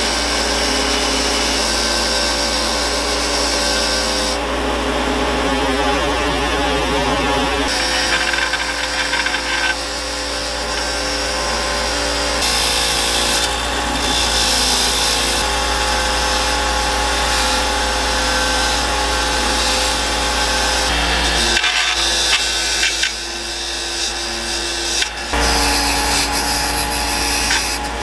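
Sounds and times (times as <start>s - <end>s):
bench grinder motor hum: 0.0s - 28.0s
metal scraping on grinding wheel: 0.0s - 28.0s.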